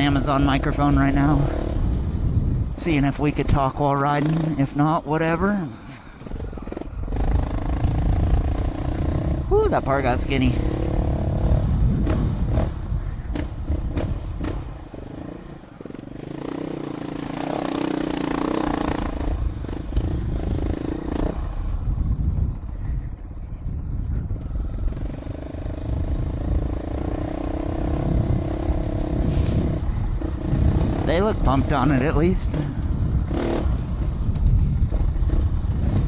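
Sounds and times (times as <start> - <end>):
motorcycle engine running: 5.6 - 23.0, 23.8 - 36.0.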